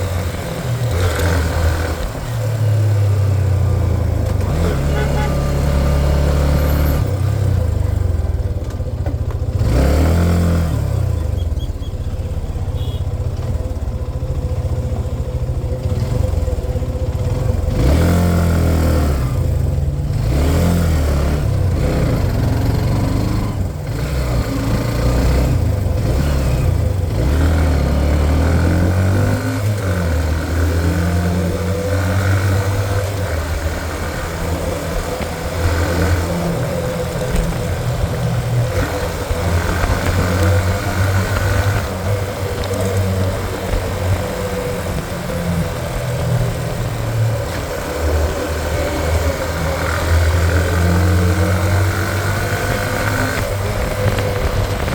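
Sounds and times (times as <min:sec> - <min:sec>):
motorcycle engine revving under load: 0:00.0 - 0:54.9.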